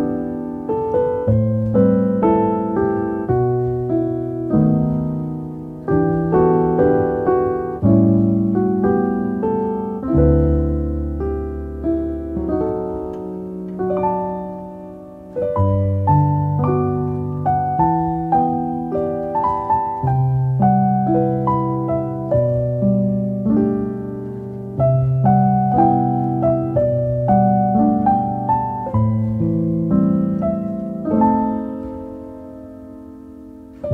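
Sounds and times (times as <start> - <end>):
slow solo piano music: 0.0 - 33.9.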